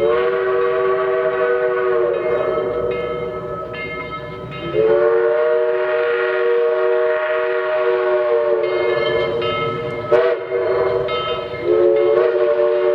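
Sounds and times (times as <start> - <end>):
steam whistle blowing a chord: 0.0 - 3.8, 4.7 - 12.9.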